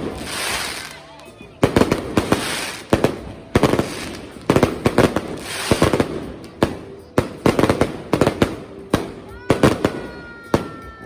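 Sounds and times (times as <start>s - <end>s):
fireworks bangs: 0.0s - 11.0s
fireworks crackling hiss: 0.0s - 11.0s.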